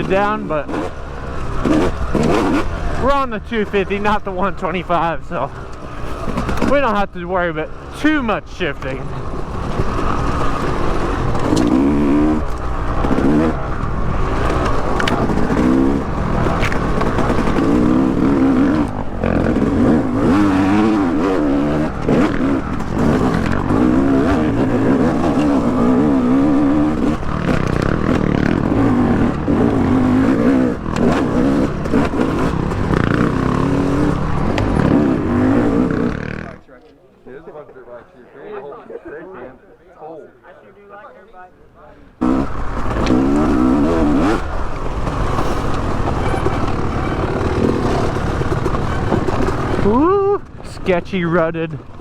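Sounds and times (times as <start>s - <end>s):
dirt bike engine revving: 0.0s - 36.6s, 42.2s - 52.0s.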